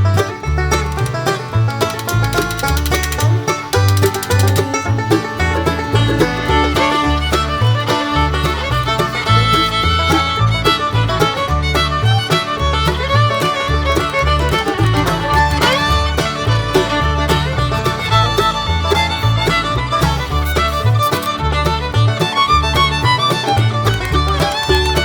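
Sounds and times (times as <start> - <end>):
bluegrass fiddle music with bass: 0.0 - 25.0.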